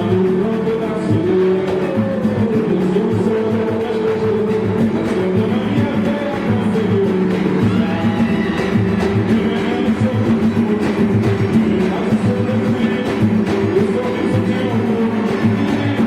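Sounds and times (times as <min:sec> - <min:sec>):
live samba band: 0:00.0 - 0:16.0.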